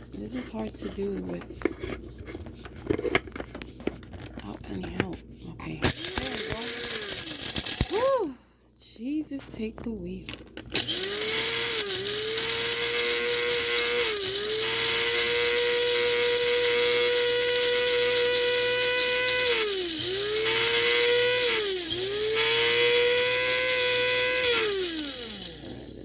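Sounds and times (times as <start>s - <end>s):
coffee grinder whining: 0.0s - 4.5s, 5.8s - 8.3s, 10.5s - 26.0s.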